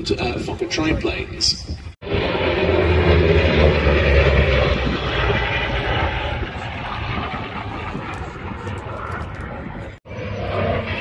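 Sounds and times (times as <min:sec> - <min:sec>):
propeller planes droning past: 0:00.0 - 0:11.0.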